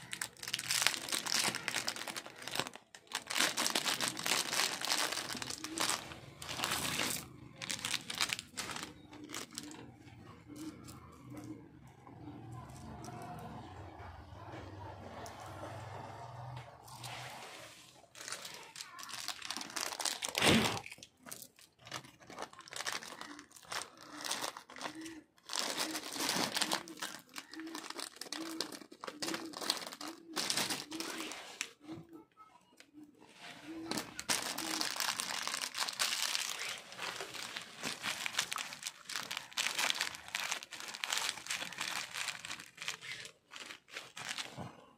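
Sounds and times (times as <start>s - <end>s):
packaging crinkling: 0.0s - 11.5s, 18.1s - 31.7s, 33.7s - 44.8s.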